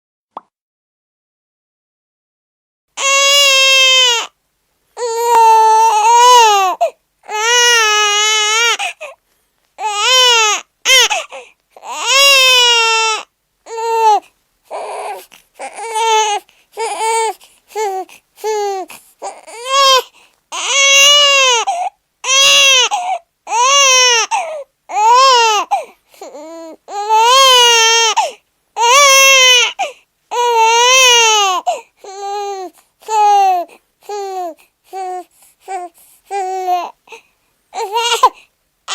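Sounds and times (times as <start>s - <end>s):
newborn baby crying: 3.0s - 4.4s, 5.0s - 9.2s, 9.8s - 38.9s.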